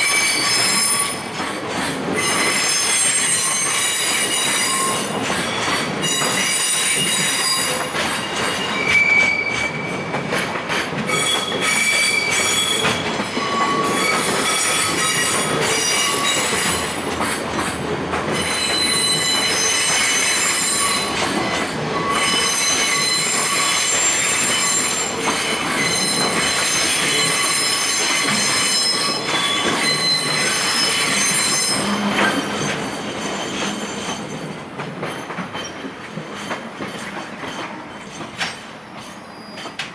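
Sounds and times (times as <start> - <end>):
train rumble: 0.0 - 39.9
train wheels squealing: 0.0 - 39.9.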